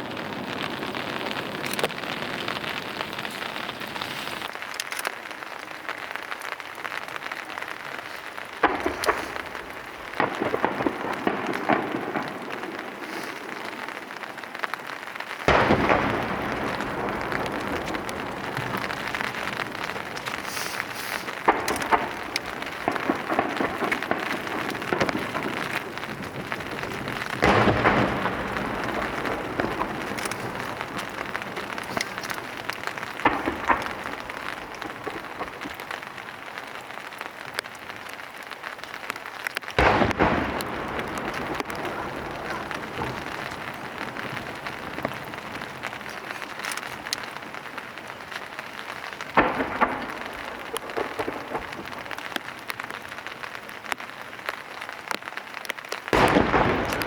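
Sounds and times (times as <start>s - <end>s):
firework shells bursting: 0.0s - 37.7s, 39.6s - 53.9s, 56.1s - 57.0s
sharp cracks: 0.0s - 57.0s
steady rain: 0.0s - 57.0s.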